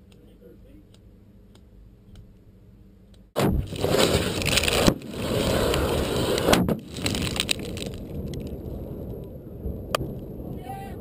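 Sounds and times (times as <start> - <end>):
low rumble with crackles: 0.0 - 11.0.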